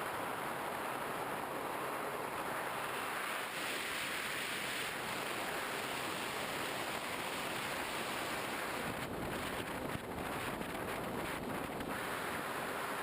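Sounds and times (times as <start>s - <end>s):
rushing wind noise: 0.0s - 13.0s.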